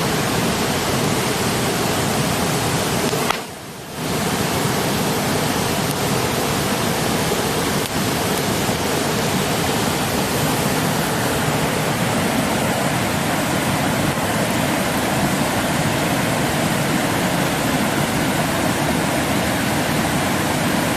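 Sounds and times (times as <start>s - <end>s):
stream rushing: 0.0s - 20.9s.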